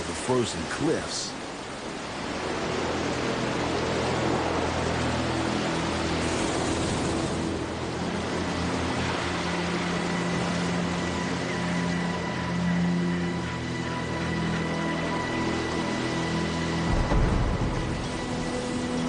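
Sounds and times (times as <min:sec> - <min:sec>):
low sustained tones: 0:01.8 - 0:19.0.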